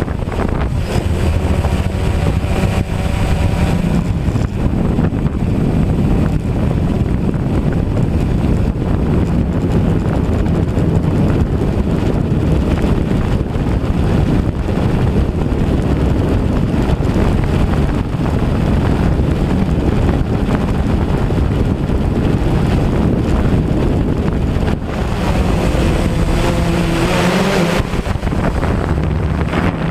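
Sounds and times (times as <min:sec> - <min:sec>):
drone propellers running: 0:00.0 - 0:08.6, 0:11.9 - 0:29.9
wind buffeting microphone: 0:00.0 - 0:29.9.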